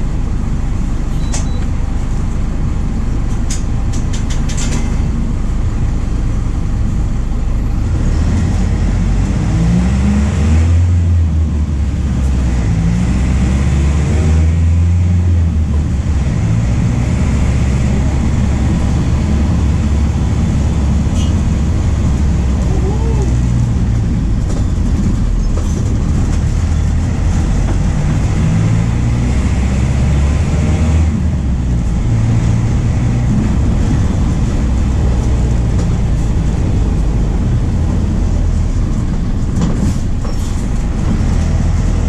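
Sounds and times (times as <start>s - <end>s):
bus diesel engine running: 0.0s - 42.0s.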